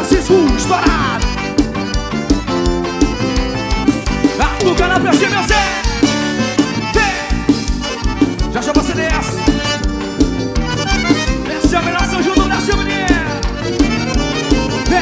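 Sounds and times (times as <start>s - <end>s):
accordion melody: 0.0s - 15.0s
bass drum beat: 0.0s - 15.0s.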